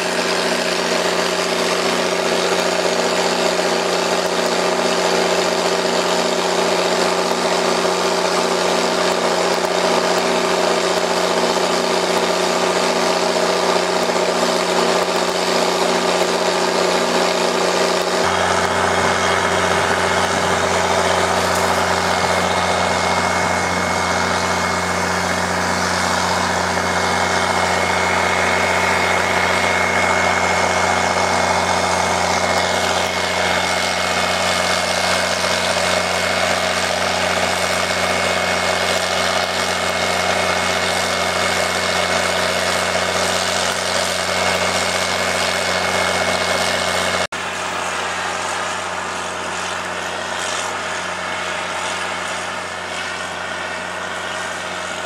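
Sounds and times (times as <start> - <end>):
diesel engine running under load: 0.0 - 55.0
high pump whine: 0.0 - 55.0.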